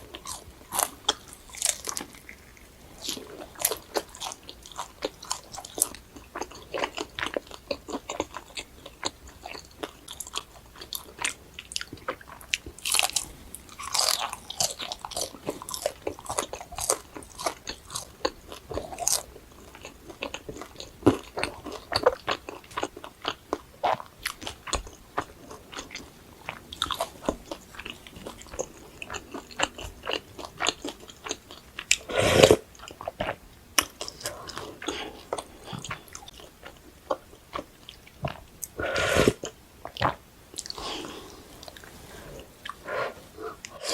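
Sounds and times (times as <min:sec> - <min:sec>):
crunching and chewing food: 0:00.0 - 0:43.9.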